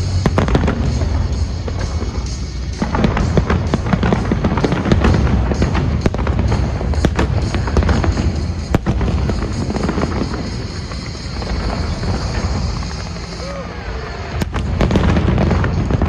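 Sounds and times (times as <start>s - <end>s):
fireworks cracks and bangs: 0.0s - 16.0s
low rumble: 0.0s - 16.0s.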